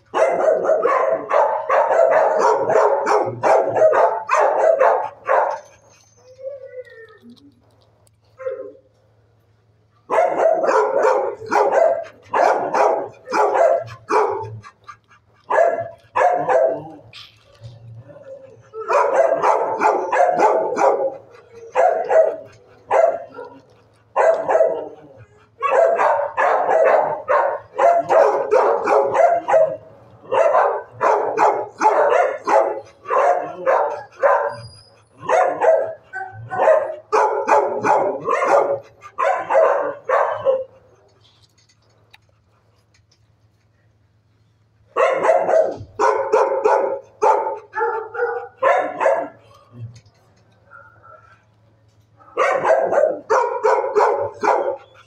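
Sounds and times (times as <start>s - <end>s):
dogs barking: 0.0s - 6.0s, 10.0s - 43.0s, 44.9s - 49.8s, 50.5s - 55.0s.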